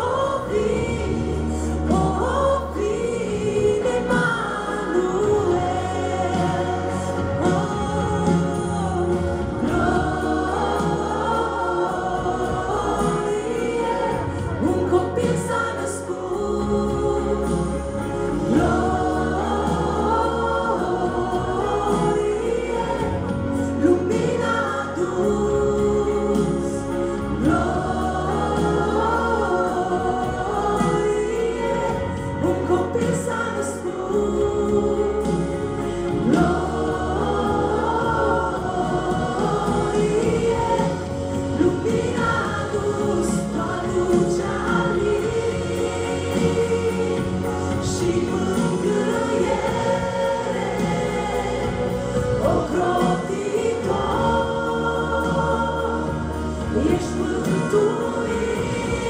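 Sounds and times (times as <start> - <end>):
bass guitar: 0.0 - 59.0
drums: 0.0 - 59.0
keyboard: 0.0 - 59.0
mixed choir singing: 0.0 - 59.0
woman singing lead: 0.0 - 59.0.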